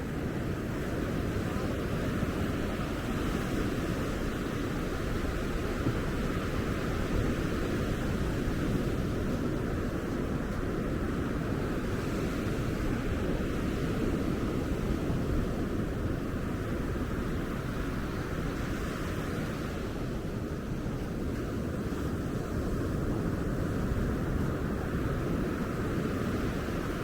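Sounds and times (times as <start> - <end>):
ocean surf washing onto beach: 0.0 - 27.0.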